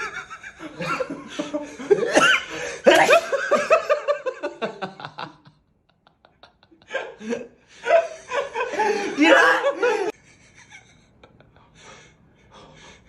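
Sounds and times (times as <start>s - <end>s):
person laughing and giggling: 0.0s - 12.0s.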